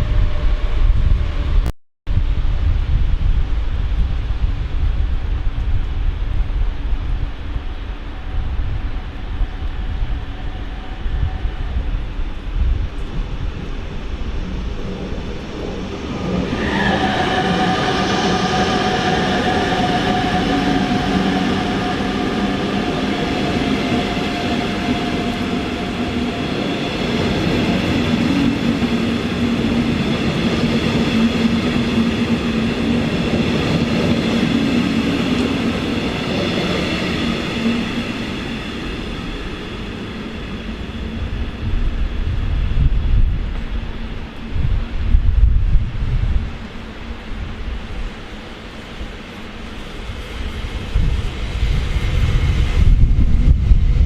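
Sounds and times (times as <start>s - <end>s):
train rumble: 0.0s - 54.0s
train whining tones: 6.7s - 54.0s.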